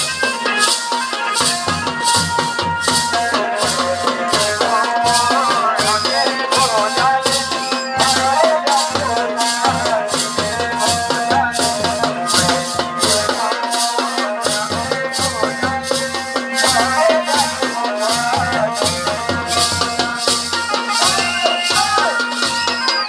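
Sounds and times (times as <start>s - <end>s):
drums: 0.0s - 23.0s
rattling percussion: 0.0s - 23.0s.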